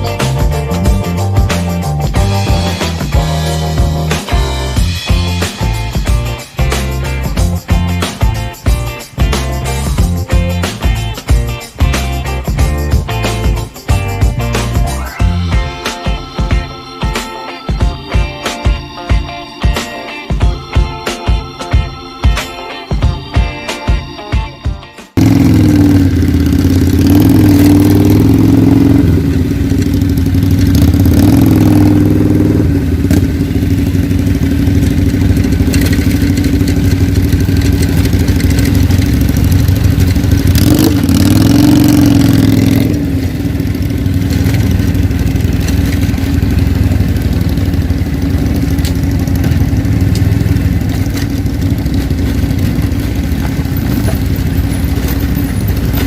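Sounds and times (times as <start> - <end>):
motorcycle engine running: 0.0 - 15.8, 25.2 - 56.0.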